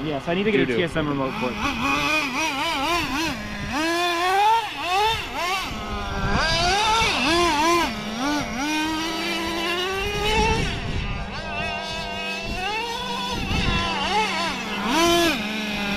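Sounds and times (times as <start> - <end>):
rc car engine revving: 0.0 - 15.9.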